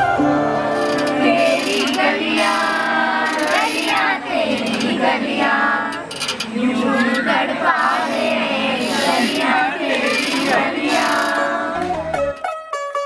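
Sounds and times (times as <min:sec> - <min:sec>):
young women singing together: 0:00.2 - 0:11.9.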